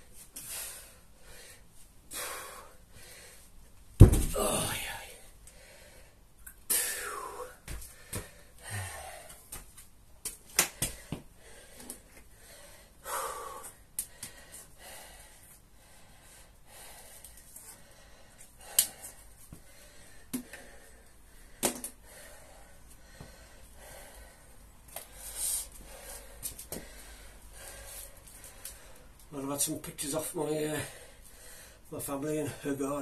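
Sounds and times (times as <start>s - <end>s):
man breathing heavily: 0.0s - 3.6s, 4.4s - 9.6s, 10.7s - 29.3s, 30.5s - 32.7s.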